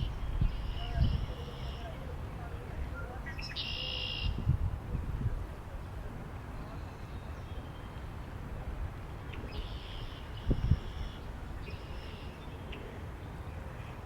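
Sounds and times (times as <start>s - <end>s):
wind rumbling on microphone: 0.0s - 3.6s, 4.2s - 7.4s, 8.0s - 14.0s.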